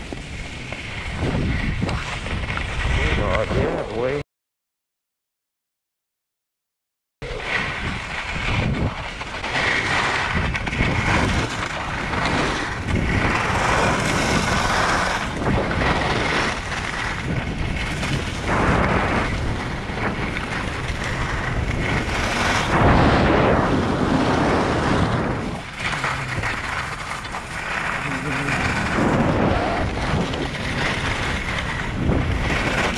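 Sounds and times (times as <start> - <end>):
skis scraping over snow: 0.0 - 4.2, 7.4 - 32.9
wind buffeting microphone: 0.0 - 4.2, 7.4 - 32.9.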